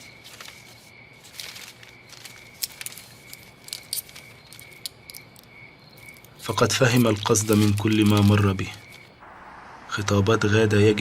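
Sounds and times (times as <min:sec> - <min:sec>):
crickets chirping: 0:00.0 - 0:11.0
low background hum: 0:00.0 - 0:11.0.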